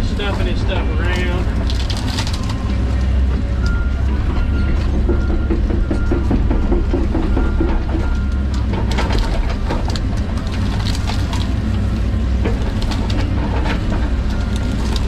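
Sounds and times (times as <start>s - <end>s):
excavator diesel engine running: 0.0s - 15.0s
wood cracking and clatter: 0.0s - 15.0s.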